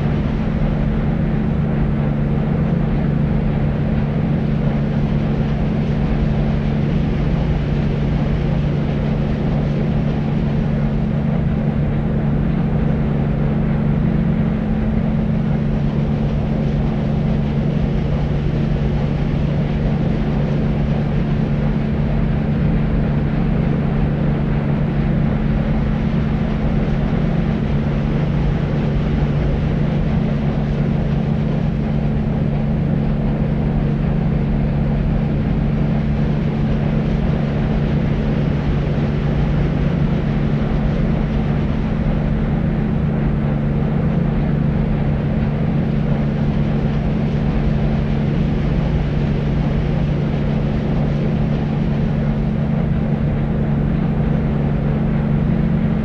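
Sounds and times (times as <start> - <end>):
constant low hum: 0.0 - 56.0
deep white noise: 0.0 - 56.0.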